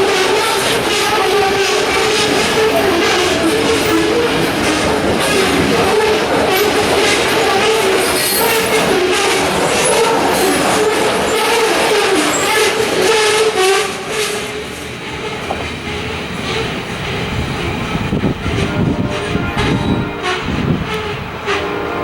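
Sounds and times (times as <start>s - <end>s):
wheels clacking over rail joints: 0.0s - 21.5s
freight train rolling past: 0.0s - 22.0s.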